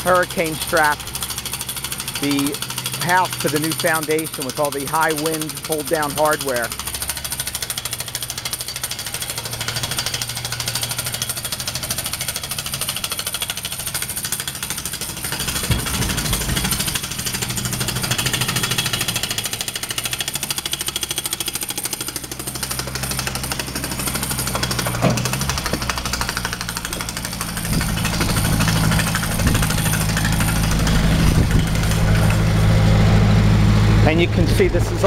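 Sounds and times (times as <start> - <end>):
engine hum: 0.0 - 35.0
jackhammer hammering concrete: 0.0 - 35.0.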